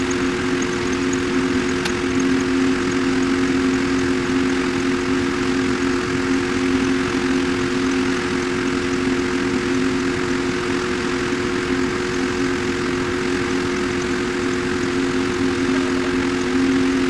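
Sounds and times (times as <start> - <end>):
machinery droning: 0.0 - 17.0.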